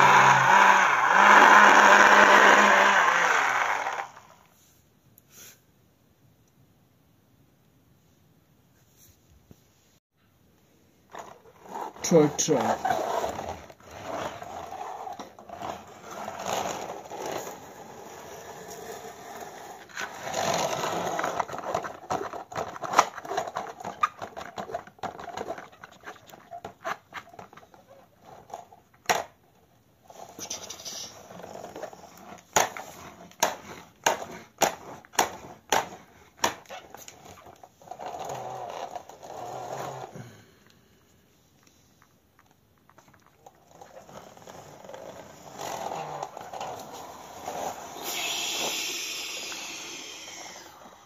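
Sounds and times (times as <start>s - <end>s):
toy truck wheels rolling and scraping: 0.0s - 4.6s, 11.0s - 40.2s, 41.6s - 51.0s.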